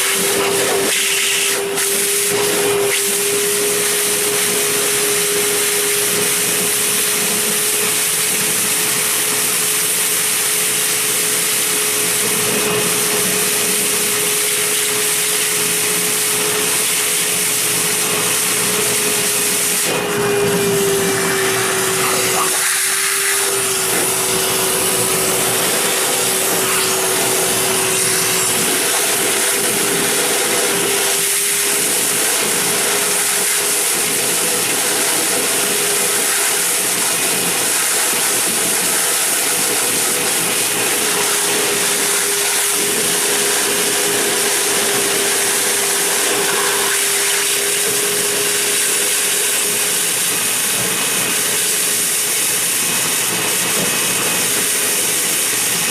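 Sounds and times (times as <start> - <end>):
shop vacuum motor whine: 0.0 - 55.9.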